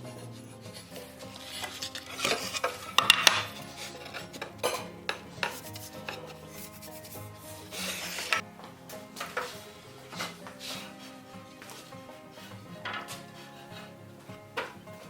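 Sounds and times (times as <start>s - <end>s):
quiet background music: 0.0s - 15.0s
rasping strokes on wood: 0.0s - 15.0s.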